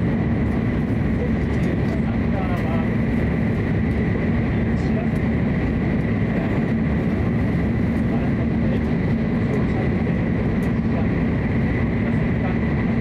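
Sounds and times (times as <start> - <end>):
train rumble from inside cabin: 0.0 - 13.0.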